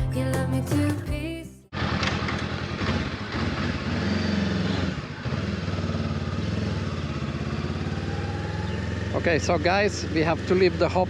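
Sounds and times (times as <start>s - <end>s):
motorcycle engine running: 1.7s - 11.0s.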